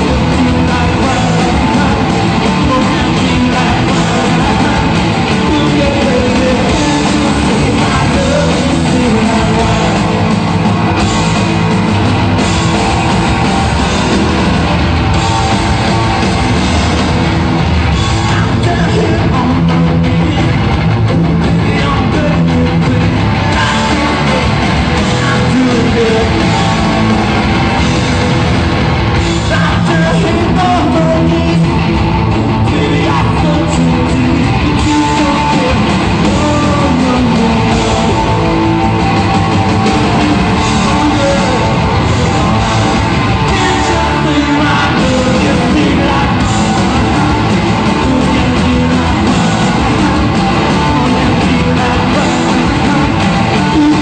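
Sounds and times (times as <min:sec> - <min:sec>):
man singing: 0:00.0 - 0:11.4, 0:17.9 - 0:28.0, 0:29.2 - 0:54.0
live rock band playing: 0:00.0 - 0:54.0.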